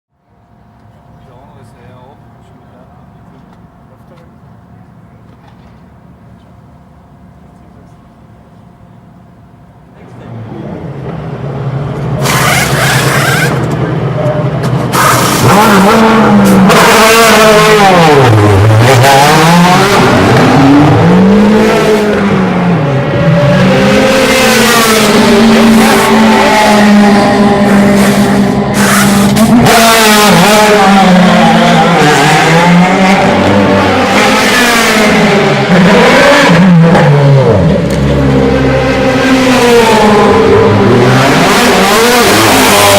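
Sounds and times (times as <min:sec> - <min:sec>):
race car engines passing: 0:00.4 - 0:42.9.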